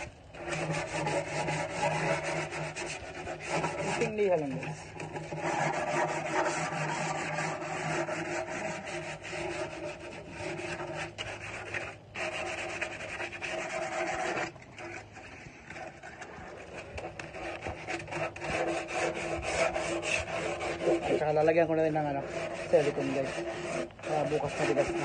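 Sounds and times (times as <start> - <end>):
sandpaper rasping on wood: 0.0 - 25.0.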